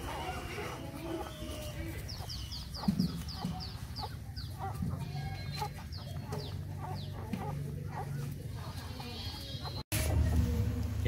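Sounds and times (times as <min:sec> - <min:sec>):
chicks peeping: 0:00.0 - 0:10.6
chickens clucking: 0:00.0 - 0:11.0.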